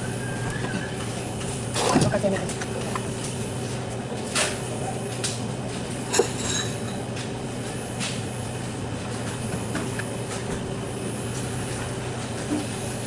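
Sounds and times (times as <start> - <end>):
compressor humming: 0.0 - 13.0.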